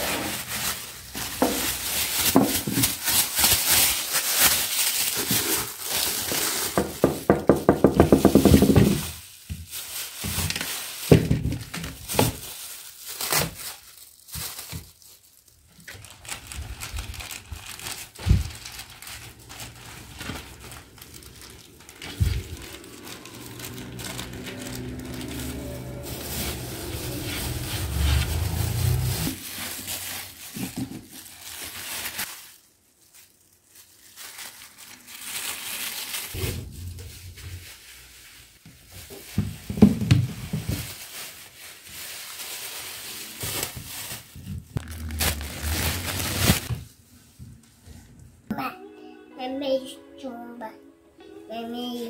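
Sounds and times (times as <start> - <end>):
plastic bags crinkling: 0.0 - 47.4.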